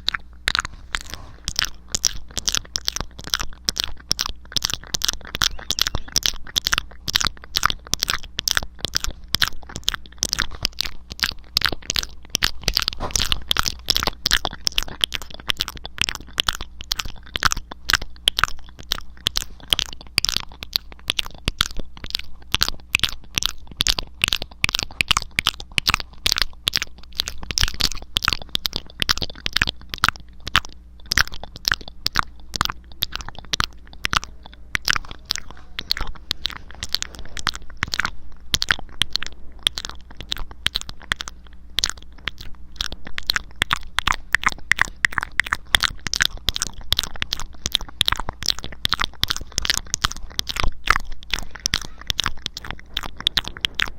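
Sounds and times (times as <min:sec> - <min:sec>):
wet mouth clicks and crackles: 0:00.0 - 0:53.9.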